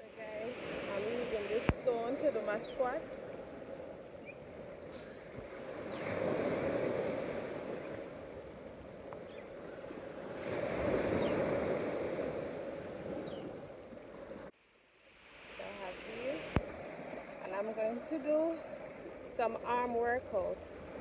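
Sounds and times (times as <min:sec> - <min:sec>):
sea waves breaking: 0:00.0 - 0:21.0.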